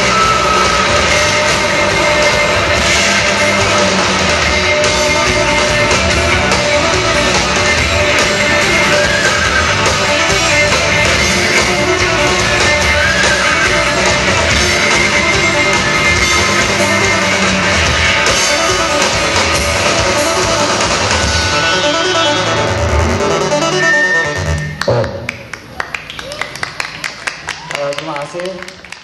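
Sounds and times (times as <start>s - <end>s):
live rock band playing: 0.0s - 24.8s
electric guitar: 0.0s - 25.3s.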